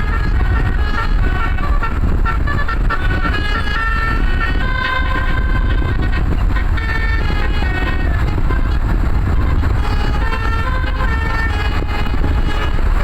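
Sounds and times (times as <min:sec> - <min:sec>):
air horn playing a melody: 0:00.0 - 0:13.0
bus engine rumble: 0:00.0 - 0:13.0.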